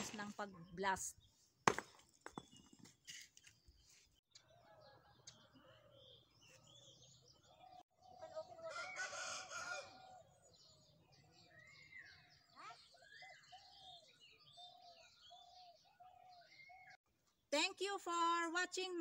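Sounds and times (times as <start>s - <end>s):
faint outdoor background sounds: 0.0s - 19.0s.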